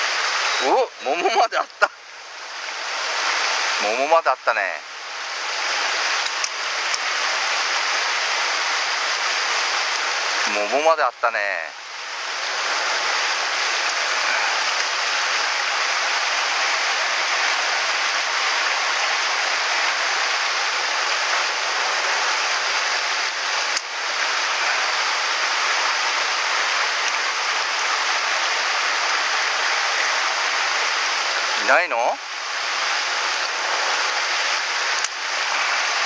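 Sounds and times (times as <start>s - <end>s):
stream rushing over stones: 0.0s - 36.0s.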